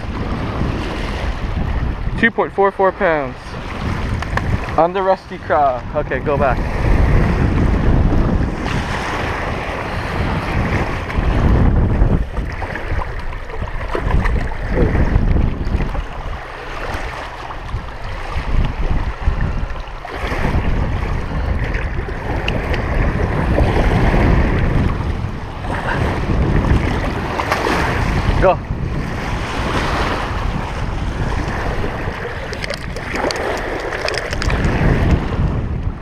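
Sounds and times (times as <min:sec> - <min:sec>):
waves lapping on rocks: 0:00.0 - 0:36.0
wind buffeting microphone: 0:00.0 - 0:36.0.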